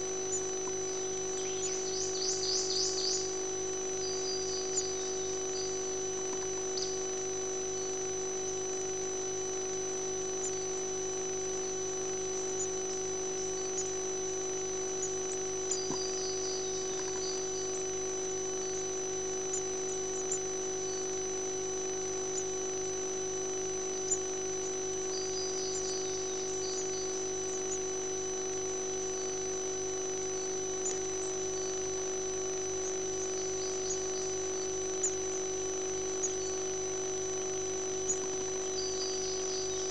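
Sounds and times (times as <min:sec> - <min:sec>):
electrical hum and whine: 0:00.0 - 0:39.9.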